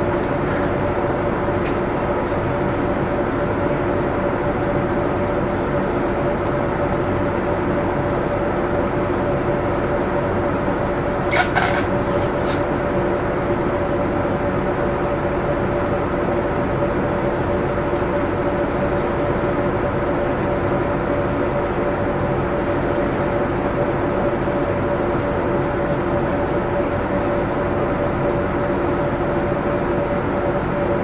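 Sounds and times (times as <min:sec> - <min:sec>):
bus engine hum: 0:00.0 - 0:31.0.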